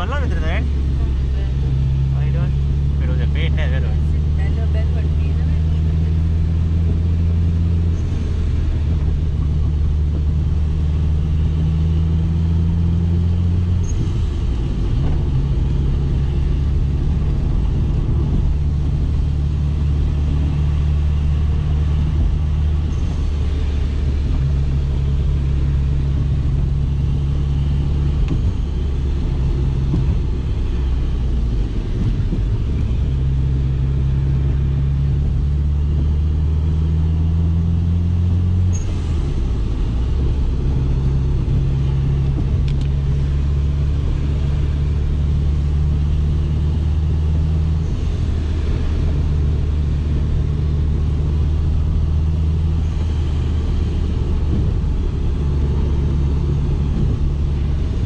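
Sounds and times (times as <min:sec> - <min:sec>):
car engine running under way: 0:00.0 - 0:58.0.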